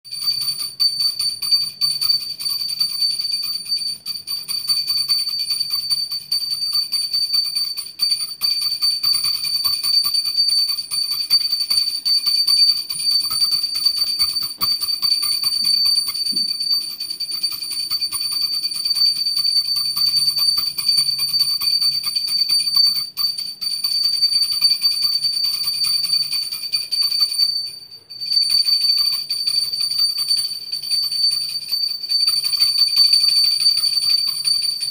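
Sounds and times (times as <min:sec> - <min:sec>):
hand bell ringing rapidly: 0:00.0 - 0:34.9.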